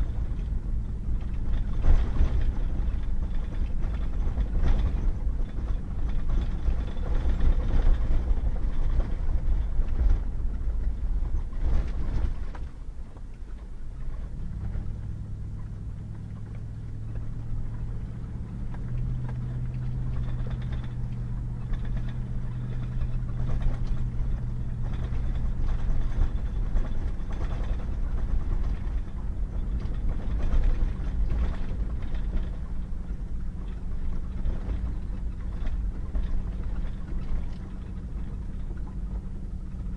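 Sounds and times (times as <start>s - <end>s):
low engine hum: 0.0s - 39.9s
truck engine and tyre rumble: 0.0s - 39.9s.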